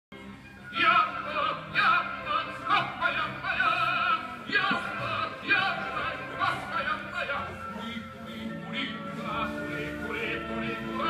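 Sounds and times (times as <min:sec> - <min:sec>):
operatic singing with vibrato: 0:00.5 - 0:11.0.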